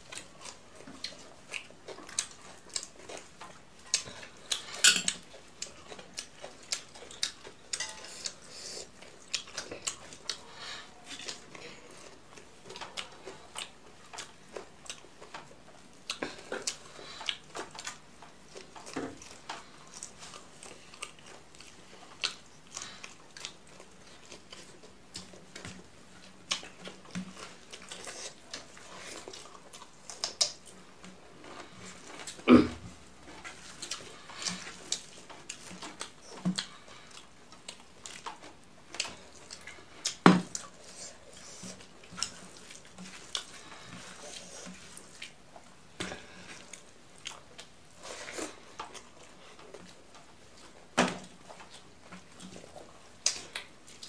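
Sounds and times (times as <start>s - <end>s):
wet chewing and lip smacking: 0.0s - 32.4s, 33.3s - 54.0s.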